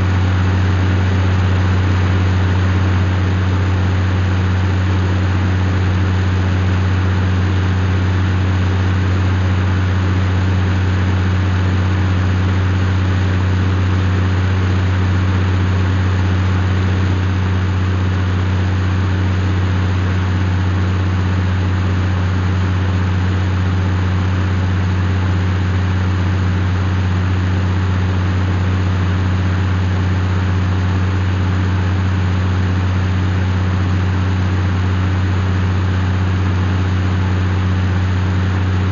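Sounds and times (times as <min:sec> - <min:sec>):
tractor engine humming steadily: 0:00.0 - 0:38.9.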